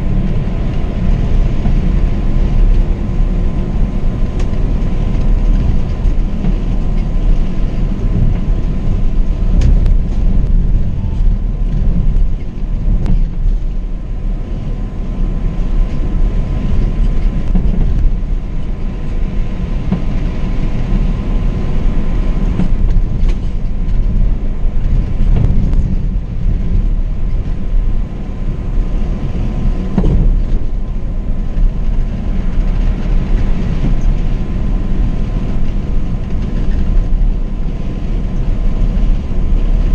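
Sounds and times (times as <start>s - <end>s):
coach engine and tyres rumbling: 0.0s - 39.9s.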